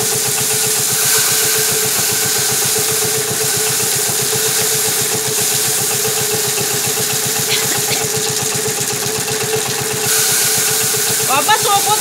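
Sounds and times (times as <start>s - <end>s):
drum thresher running: 0.0s - 12.0s
grain stripping hiss: 0.0s - 12.0s.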